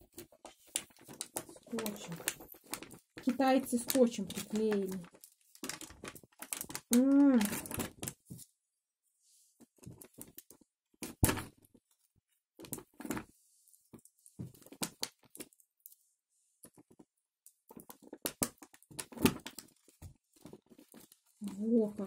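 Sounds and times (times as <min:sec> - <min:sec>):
plastic packaging clicking and crinkling: 0:00.0 - 0:08.5, 0:09.6 - 0:12.0, 0:12.6 - 0:16.0, 0:16.6 - 0:22.0.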